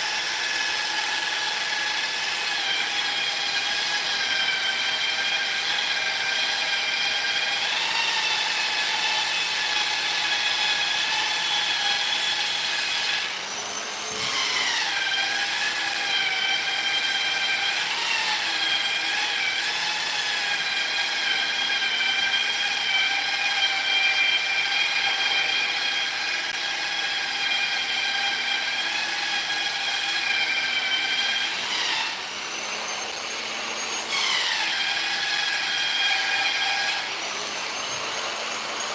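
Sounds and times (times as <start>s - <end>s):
electric polisher motor whine: 0.0s - 38.9s.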